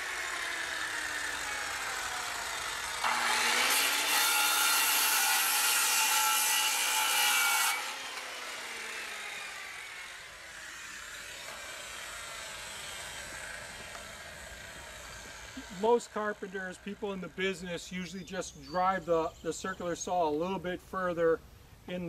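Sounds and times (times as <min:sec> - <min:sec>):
saw blade winding down: 0:00.0 - 0:17.7
circular saw cutting wood: 0:00.0 - 0:18.3.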